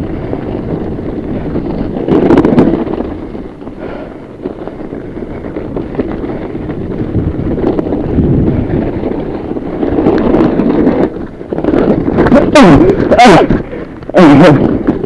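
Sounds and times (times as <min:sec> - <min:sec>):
tyre rumble on dirt: 0:00.0 - 0:15.0
wind buffeting microphone: 0:00.0 - 0:15.0.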